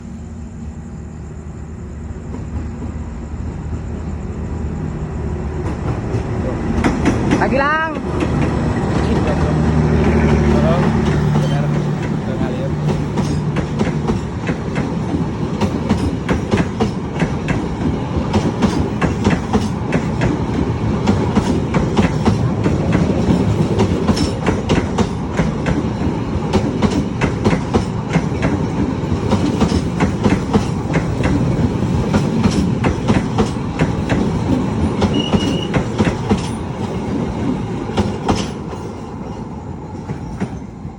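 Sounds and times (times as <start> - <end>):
train wheels rumbling on rails: 0.0 - 40.9
wheels clicking over rail joints: 5.6 - 40.7.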